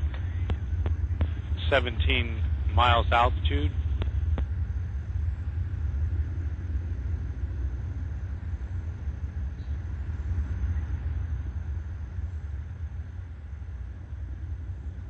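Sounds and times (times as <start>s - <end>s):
rocket engine low rumble: 0.0s - 15.0s.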